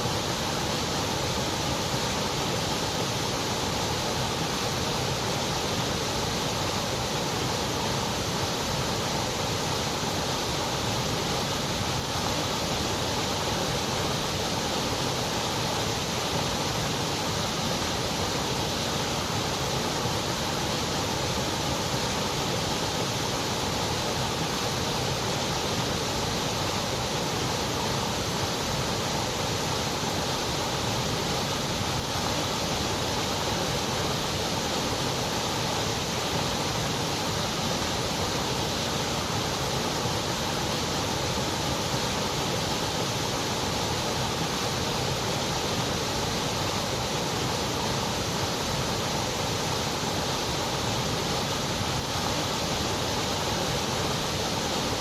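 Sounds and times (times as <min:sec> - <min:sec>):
electronic white noise hiss: 0:00.0 - 0:55.0.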